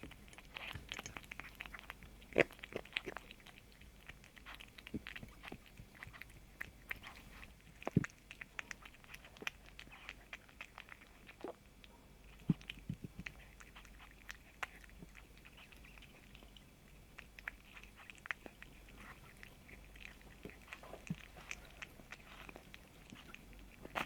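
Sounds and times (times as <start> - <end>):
kitten chewing crunchy food: 0.0 - 24.0.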